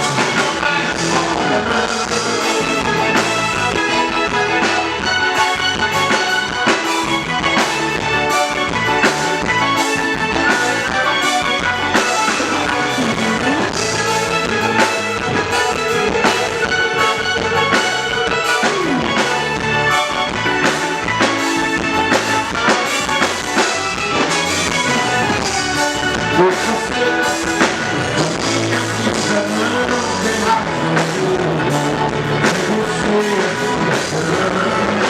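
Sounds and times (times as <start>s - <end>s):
lead instrument sliding notes: 0.0s - 32.1s
drum kit beat: 0.0s - 35.0s.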